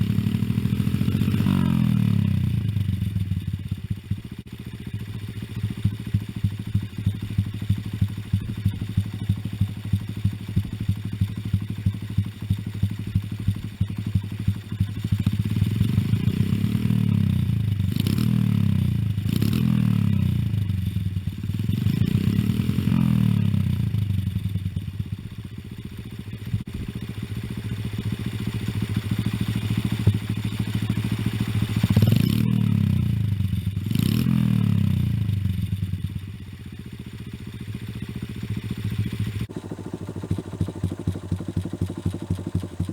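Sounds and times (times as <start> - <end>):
motorcycle engine idling: 0.0 - 42.9
motorcycle engine revving: 0.0 - 42.9.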